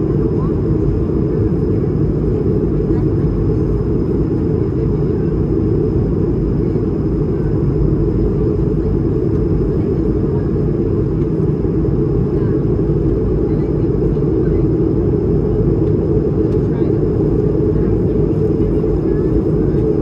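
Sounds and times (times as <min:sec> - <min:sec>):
jet airliner cabin rumble: 0:00.0 - 0:20.0.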